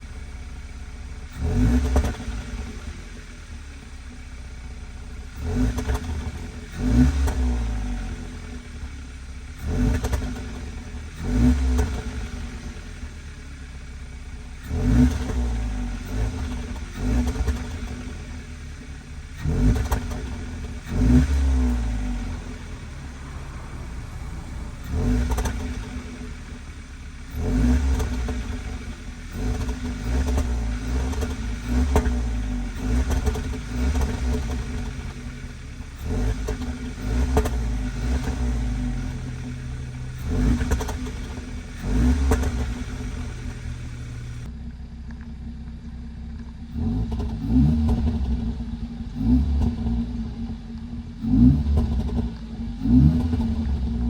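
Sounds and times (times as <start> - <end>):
car engine revving: 0.0 - 45.2, 46.3 - 54.0
exhaust pops and crackles: 1.3 - 2.9, 4.8 - 8.7, 9.6 - 13.2, 14.3 - 54.0.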